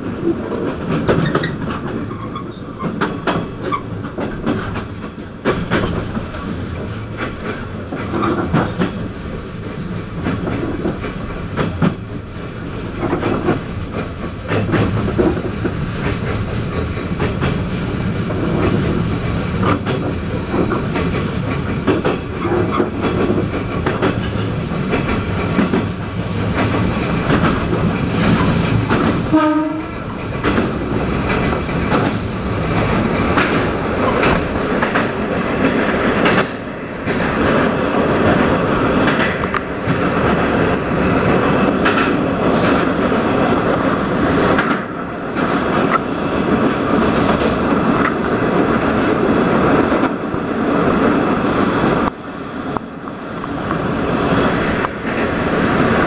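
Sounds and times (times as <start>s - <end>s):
rail clatter: 0.0s - 56.0s
train rumble inside carriage: 0.0s - 56.0s.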